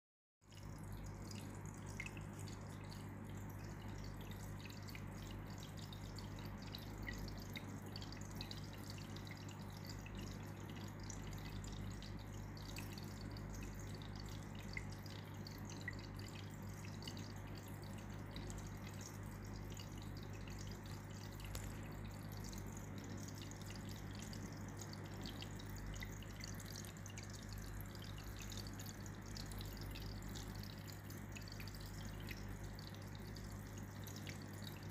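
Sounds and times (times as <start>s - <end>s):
low steady hum: 0.4s - 34.9s
water trickling into tank: 0.4s - 34.9s.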